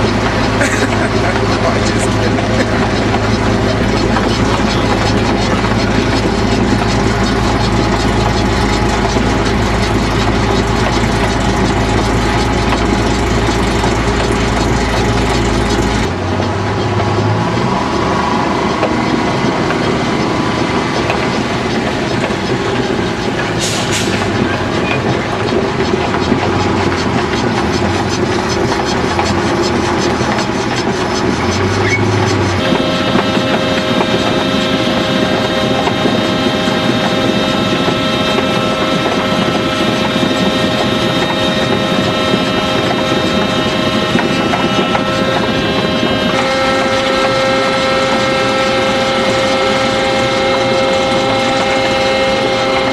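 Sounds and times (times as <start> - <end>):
deep low engine hum: 0.0 - 52.9
heavy farm vehicle engine: 0.0 - 52.9.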